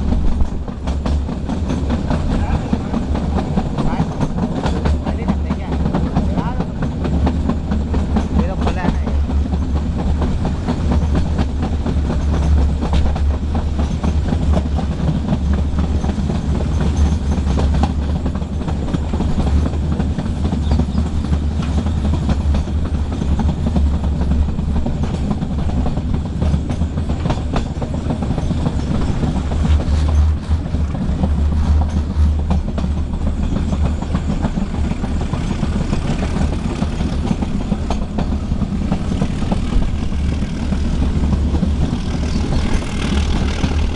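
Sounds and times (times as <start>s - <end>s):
train rumble: 0.0s - 43.9s
wheels clicking over rail joints: 0.0s - 43.9s.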